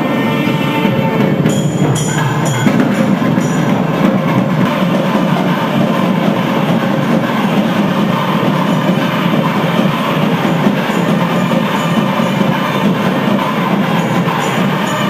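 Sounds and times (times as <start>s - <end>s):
crowd noise: 0.0s - 15.0s
drumming: 0.0s - 15.0s.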